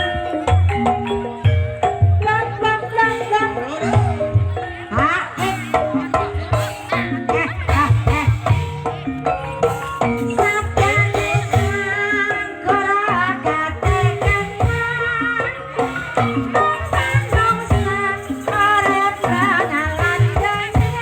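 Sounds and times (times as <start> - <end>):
gamelan tuned percussion melody: 0.0 - 21.0
person singing: 2.2 - 21.0.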